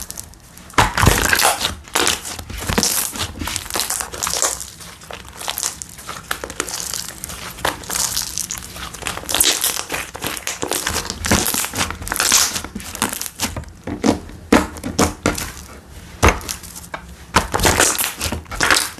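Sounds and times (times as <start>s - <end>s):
slime squished by hand: 0.0s - 18.9s.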